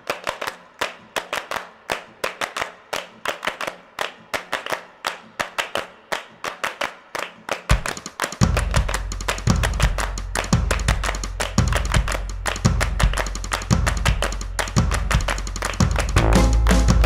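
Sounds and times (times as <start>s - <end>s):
hands clapping rhythmically: 0.0s - 17.0s.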